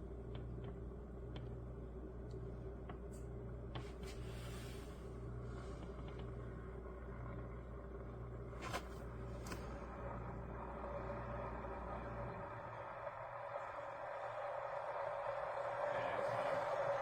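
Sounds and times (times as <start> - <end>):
electric kettle rumbling: 0.0 - 17.0.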